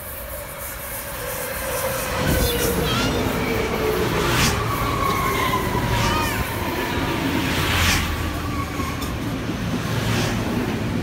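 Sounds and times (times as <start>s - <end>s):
rumble of train cars: 0.0s - 11.0s.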